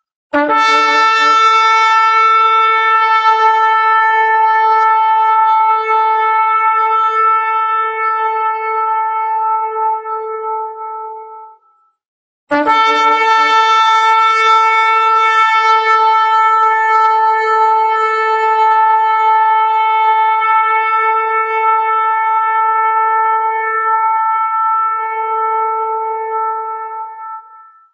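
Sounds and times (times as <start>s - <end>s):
ram's horn long blast: 0.4s - 11.8s, 12.5s - 27.9s.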